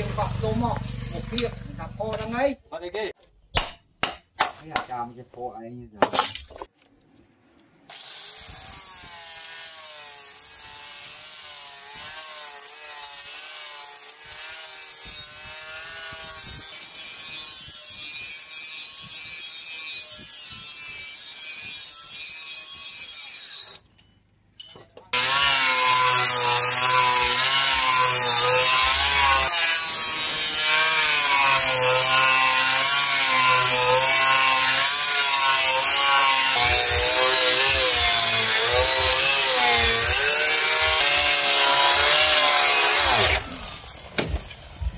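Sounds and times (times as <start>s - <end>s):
angle grinder grinding steel: 0.0s - 2.5s, 7.9s - 24.0s, 25.1s - 44.9s.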